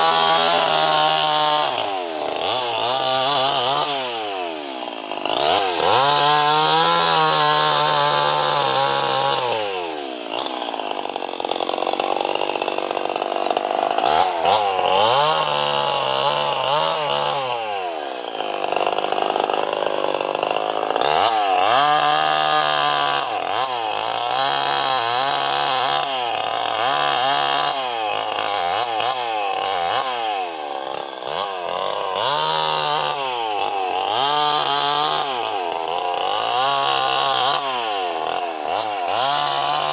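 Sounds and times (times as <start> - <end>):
chainsaw cutting wood revving: 0.0 - 39.9.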